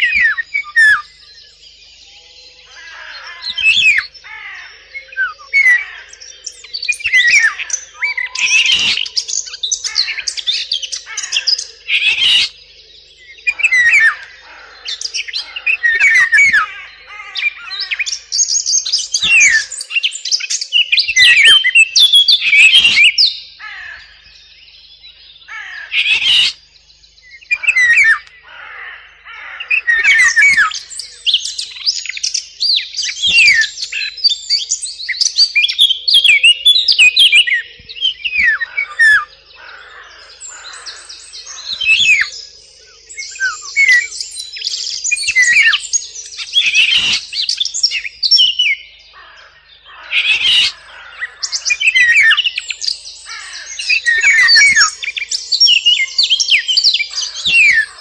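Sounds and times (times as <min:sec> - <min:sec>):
recorded songbird warbling: 0:00.0 - 0:58.0.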